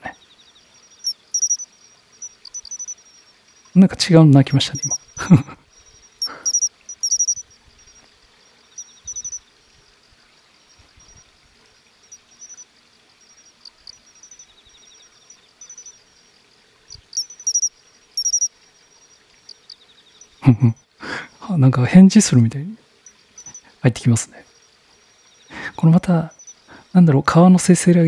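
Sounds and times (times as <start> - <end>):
cricket chirping: 0.0 - 28.0
insect low rapid trill: 0.0 - 28.0
running water murmur: 0.0 - 28.0.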